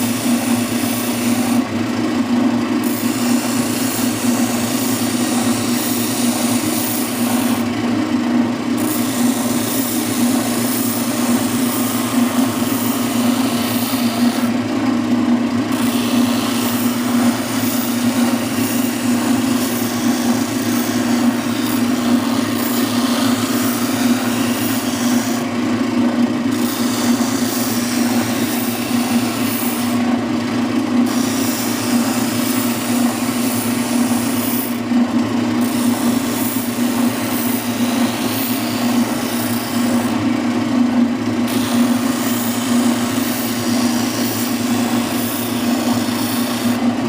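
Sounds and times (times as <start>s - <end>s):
spindle sander sanding wood: 0.0s - 47.0s.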